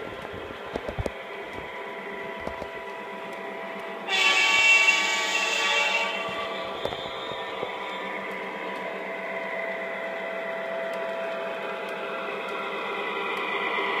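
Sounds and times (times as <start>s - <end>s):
model train humming: 0.0s - 14.0s.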